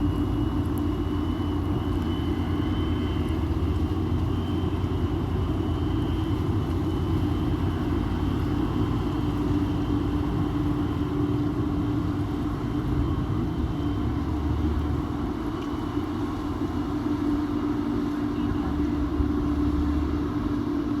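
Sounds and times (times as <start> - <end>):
ferry engines humming: 0.0 - 21.0.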